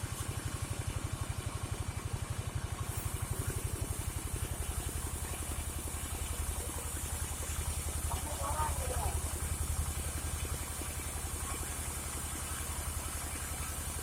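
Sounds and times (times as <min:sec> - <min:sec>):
sawmill engine chugging: 0:00.0 - 0:14.0.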